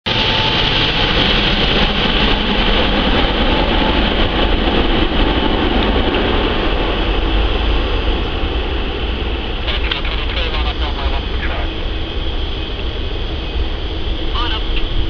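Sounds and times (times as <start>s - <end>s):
jet airliner flying overhead: 0.1s - 15.0s.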